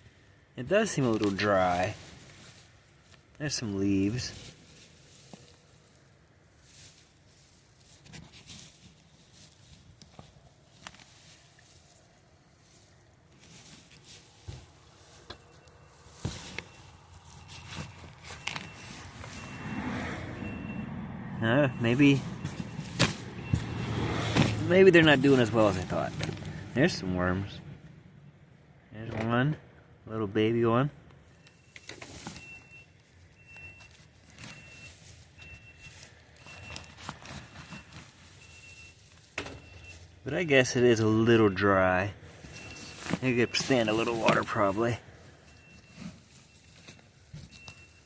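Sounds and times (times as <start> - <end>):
hands rustling leaves and compost: 0.7 - 21.0, 21.7 - 27.5, 31.9 - 48.0.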